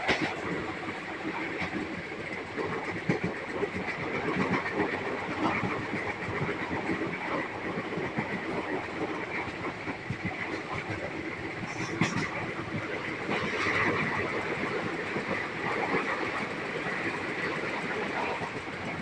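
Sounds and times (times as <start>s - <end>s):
train running rumble: 0.0s - 19.0s
wheels clattering on track: 0.0s - 19.0s.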